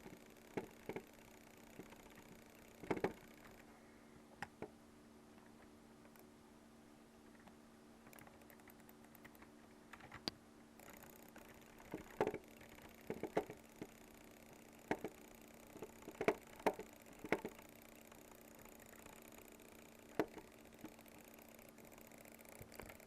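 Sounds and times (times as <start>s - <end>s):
sharp clicks: 0.0s - 3.7s, 7.4s - 23.0s
faint steady hum: 0.0s - 23.0s.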